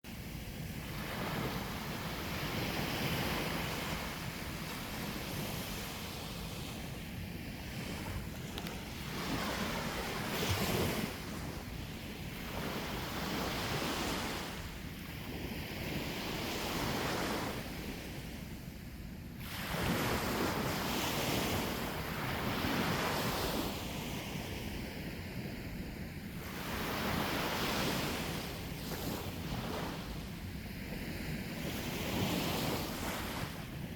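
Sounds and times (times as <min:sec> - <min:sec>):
sea waves breaking on shore: 0:00.1 - 0:18.5, 0:19.4 - 0:25.7, 0:26.3 - 0:33.9
wind rumbling on microphone: 0:00.1 - 0:33.9.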